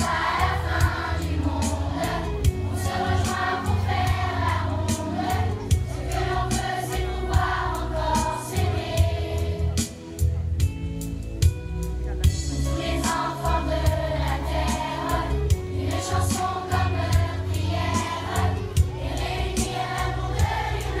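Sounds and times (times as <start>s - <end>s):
children singing in unison: 0.0s - 9.5s, 12.8s - 21.0s
backing track with bass and beat: 0.0s - 21.0s.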